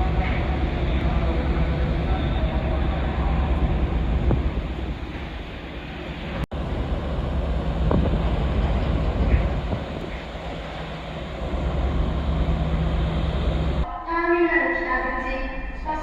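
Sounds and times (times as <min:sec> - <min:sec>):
engine hum: 0:00.0 - 0:13.8
noisy rumble: 0:00.0 - 0:14.1.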